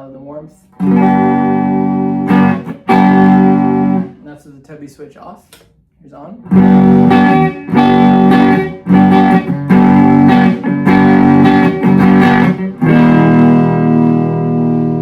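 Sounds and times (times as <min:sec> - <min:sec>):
electric guitar chords: 0:00.8 - 0:04.2, 0:06.4 - 0:15.0.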